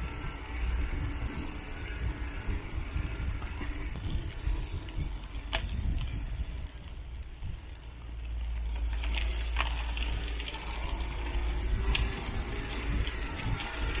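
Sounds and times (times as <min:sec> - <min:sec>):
wheels rolling on gravel: 0:00.0 - 0:14.0
wind on microphone: 0:00.0 - 0:14.0.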